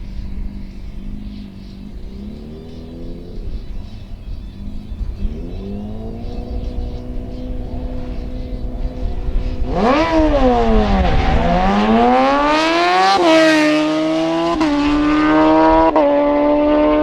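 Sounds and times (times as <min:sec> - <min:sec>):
racing motorcycle engine revving: 0:00.0 - 0:17.0.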